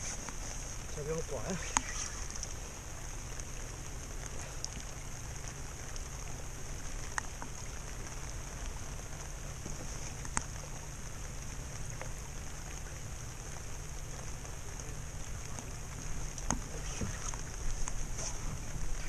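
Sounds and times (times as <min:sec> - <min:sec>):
low rumble of wind and water: 0:00.0 - 0:19.0.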